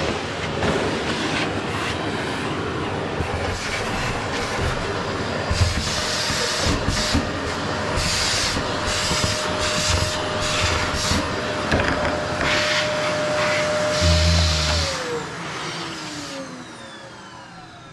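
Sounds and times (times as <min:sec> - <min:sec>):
vacuum cleaner on wooden floor: 0:00.0 - 0:17.9.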